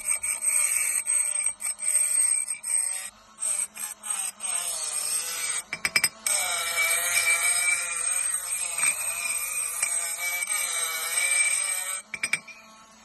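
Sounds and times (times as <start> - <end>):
rotary tool whining: 0.0 - 13.0.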